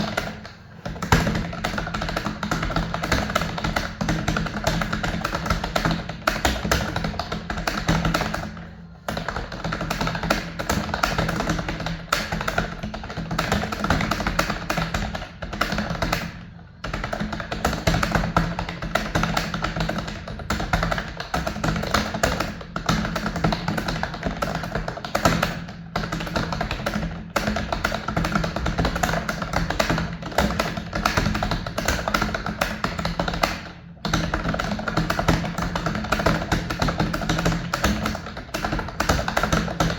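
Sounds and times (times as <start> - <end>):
rapid keyboard typing: 0.0 - 39.9.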